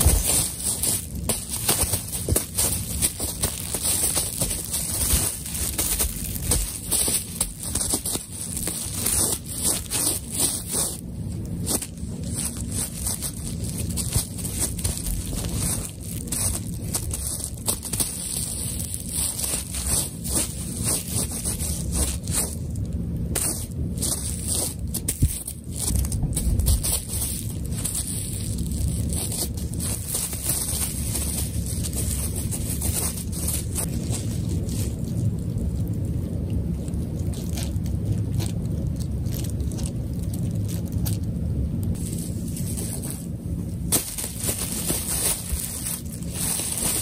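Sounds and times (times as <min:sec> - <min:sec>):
bubble wrap crinkling and scraping: 0:00.0 - 0:47.0
steady low hum: 0:00.0 - 0:47.0.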